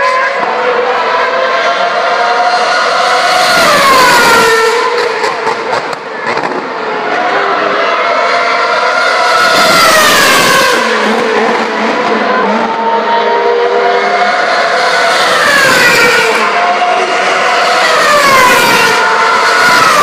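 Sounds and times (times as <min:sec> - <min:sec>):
racing car engines passing: 0:00.0 - 0:20.0.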